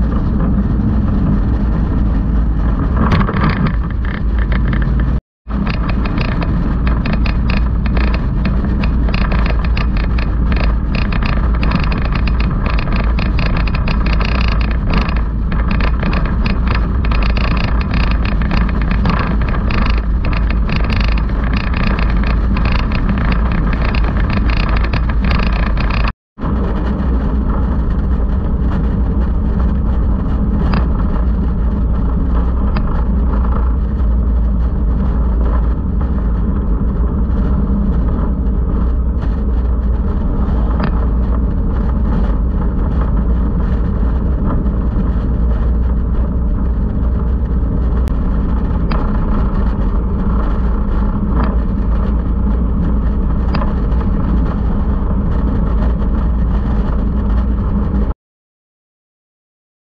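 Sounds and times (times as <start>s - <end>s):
motorcycle engine running: 0.0s - 58.1s
wind and road rush: 0.0s - 58.2s.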